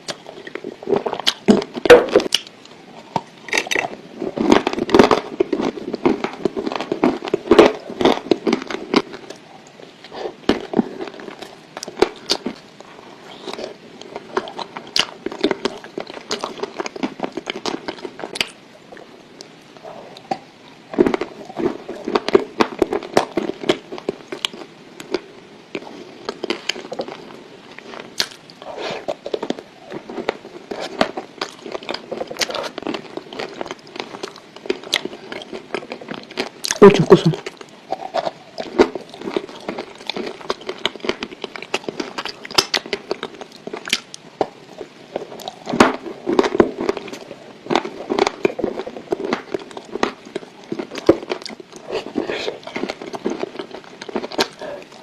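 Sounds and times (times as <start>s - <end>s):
dry clay crunching being chewed: 0.0s - 55.0s.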